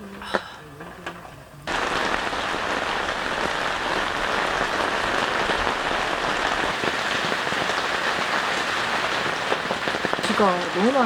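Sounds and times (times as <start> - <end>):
heavy rain pouring: 1.7 - 11.0.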